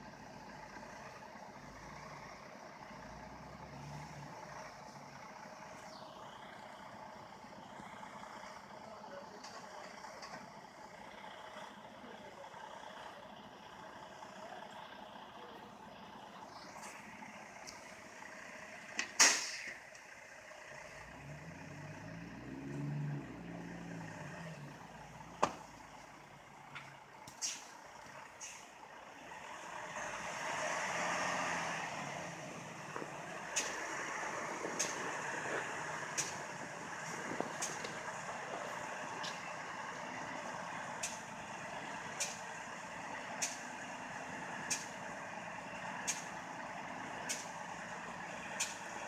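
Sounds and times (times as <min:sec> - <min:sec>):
tires spinning in snow: 0:00.0 - 0:49.0
truck engine revving: 0:00.0 - 0:49.0.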